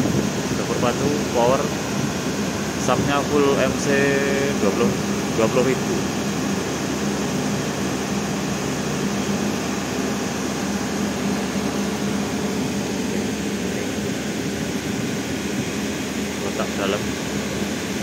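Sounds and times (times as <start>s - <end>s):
machine drone: 0.0s - 18.0s.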